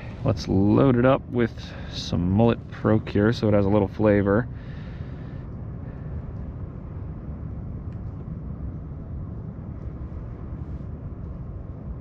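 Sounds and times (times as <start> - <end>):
low outdoor rumbling: 0.0 - 12.0.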